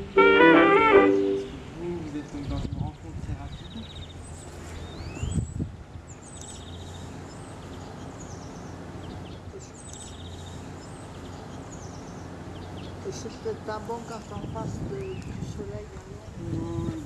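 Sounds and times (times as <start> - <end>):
small birds chirping: 1.4 - 17.0.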